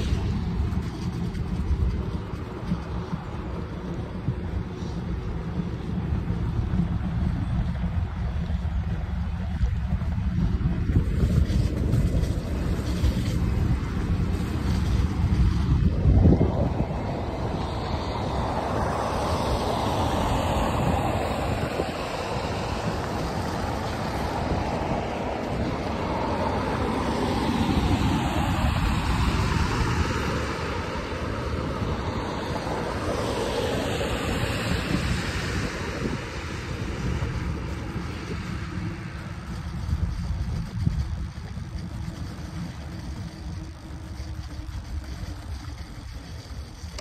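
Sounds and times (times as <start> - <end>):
bike tyre rolling on snow: 0.0 - 47.0
road traffic: 0.0 - 47.0
wind buffeting microphone: 0.0 - 47.0.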